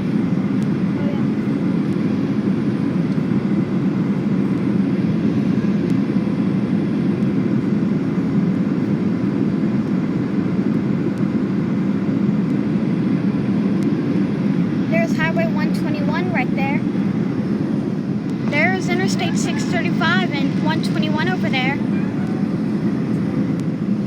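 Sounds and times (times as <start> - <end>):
airflow over airframe: 0.0 - 24.0
jet engines in cabin: 0.0 - 24.0.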